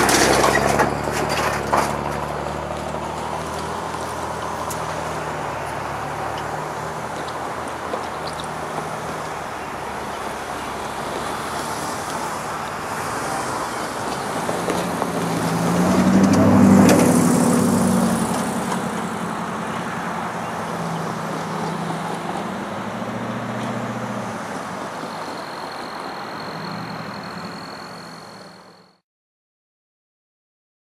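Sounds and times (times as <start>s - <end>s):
diesel freight train passing: 0.0s - 28.9s.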